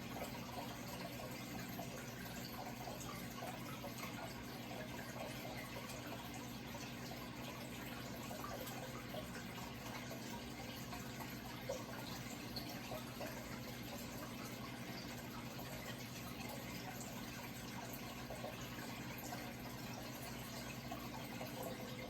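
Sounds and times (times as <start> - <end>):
low steady hum: 0.0 - 22.0
water trickling and splashing: 0.0 - 22.0.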